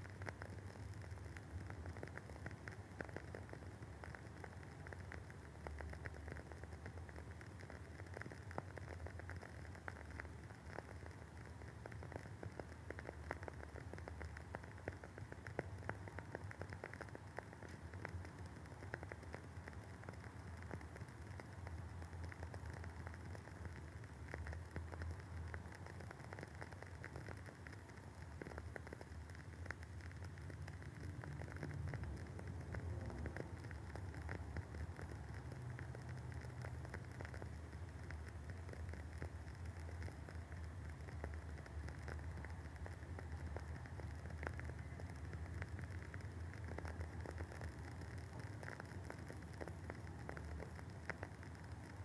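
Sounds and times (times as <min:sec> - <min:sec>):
candle wick crackling: 0:00.0 - 0:52.0
faint low hum: 0:00.0 - 0:52.0.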